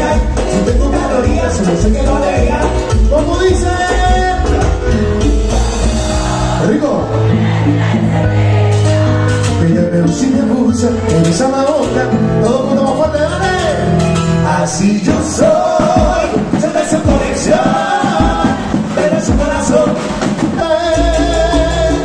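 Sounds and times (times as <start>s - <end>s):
men singing: 0.0s - 12.8s, 14.4s - 22.0s
congas: 0.0s - 22.0s
latin dance band playing: 0.0s - 22.0s.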